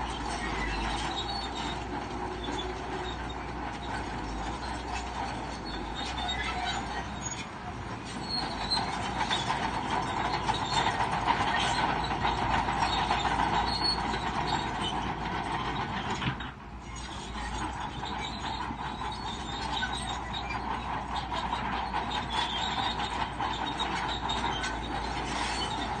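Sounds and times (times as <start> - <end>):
bulldozer engine: 0.0 - 26.0
steel tracks squealing and clanking: 0.0 - 26.0.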